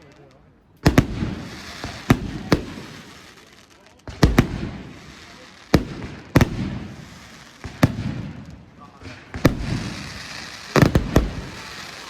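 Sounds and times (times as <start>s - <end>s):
fireworks bursting with echo: 0.0s - 12.0s.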